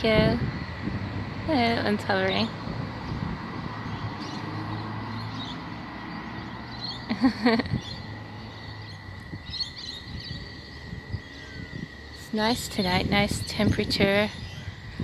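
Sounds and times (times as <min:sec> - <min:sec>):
small birds chirping: 0:00.0 - 0:15.0
traffic hum: 0:00.0 - 0:15.0.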